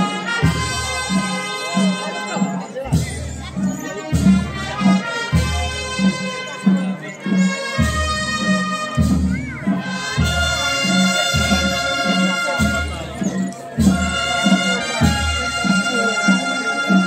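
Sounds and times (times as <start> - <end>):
marching band playing slow march: 0.0 - 17.0.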